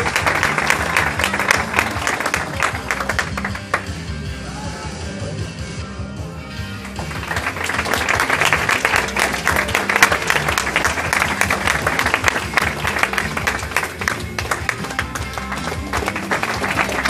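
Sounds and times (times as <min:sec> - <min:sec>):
audience clapping: 0:00.0 - 0:04.0, 0:06.8 - 0:17.0
rock music with guitar: 0:00.8 - 0:17.0.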